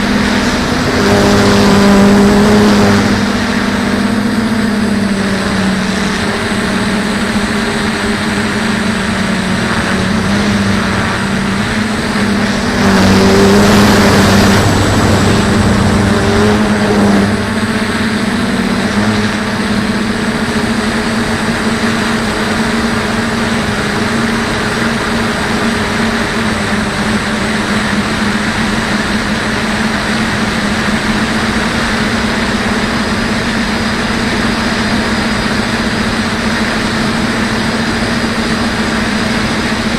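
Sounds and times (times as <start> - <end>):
quadcopter propellers humming: 0.0 - 39.9.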